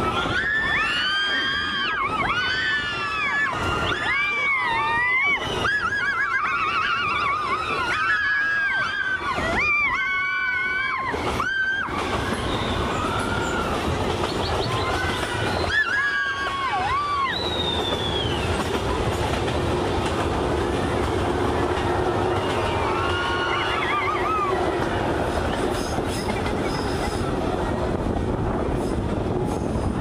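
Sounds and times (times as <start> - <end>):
passengers shouting and whooping: 0.0 - 30.0
train rumbling through tunnel: 0.0 - 30.0.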